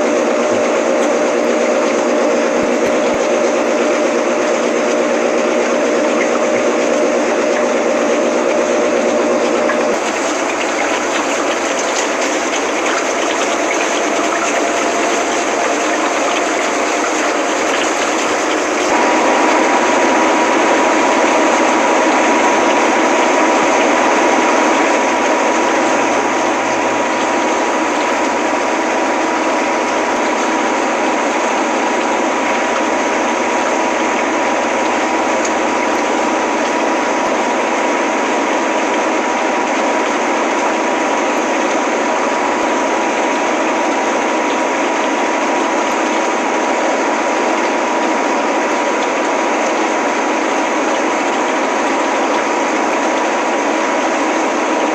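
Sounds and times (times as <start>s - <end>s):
washing machine running: 0.0s - 54.9s.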